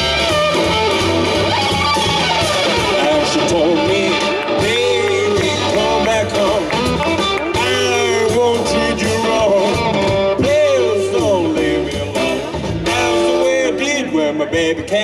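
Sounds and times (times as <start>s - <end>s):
harmonica bending notes: 0.0s - 14.3s
blues band playing: 0.0s - 15.0s.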